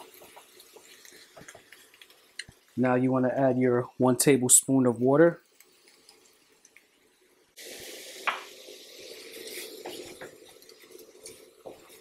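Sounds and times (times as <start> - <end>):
fruit sizzling in hot pan: 0.0 - 12.0.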